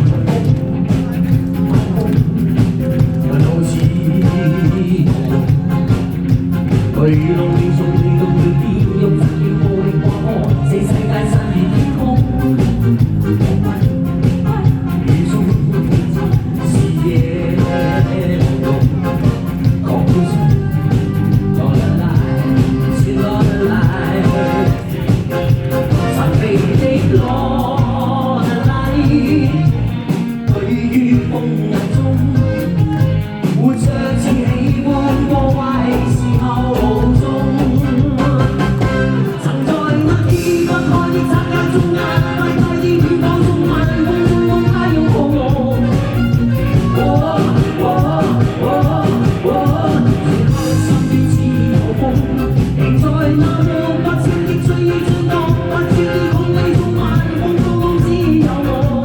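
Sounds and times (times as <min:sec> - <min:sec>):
live rock band with singer: 0:00.0 - 0:59.0.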